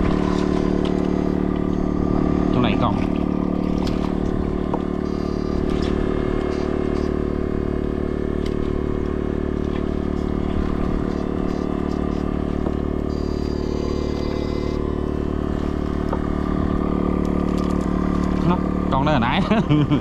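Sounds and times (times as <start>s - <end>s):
electrical buzz: 0.0s - 20.0s.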